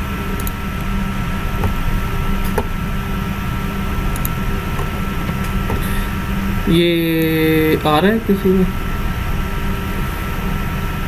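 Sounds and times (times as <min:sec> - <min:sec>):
machine hum and hiss: 0:00.0 - 0:11.0
thin steady whine: 0:00.0 - 0:11.0.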